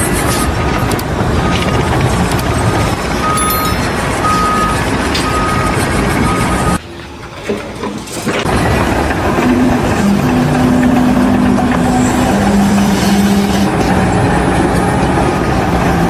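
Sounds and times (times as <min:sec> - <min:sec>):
heavy vehicle engine running: 0:00.0 - 0:16.0.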